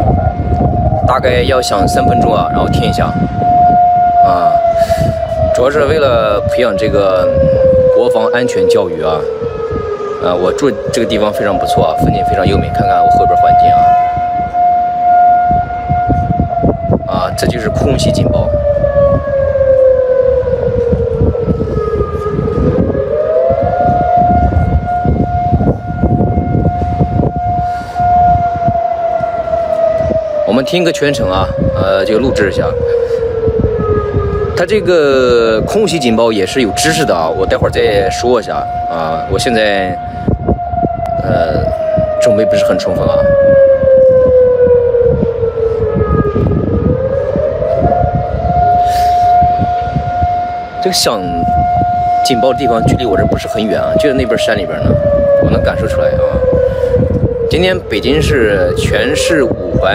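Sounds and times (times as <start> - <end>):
air-raid siren: 0.0 - 59.9.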